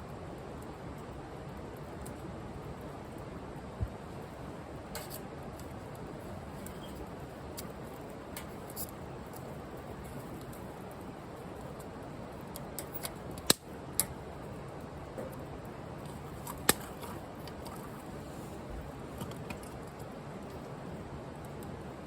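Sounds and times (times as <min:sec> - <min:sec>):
firewood crackling and popping: 0:00.2 - 0:21.8.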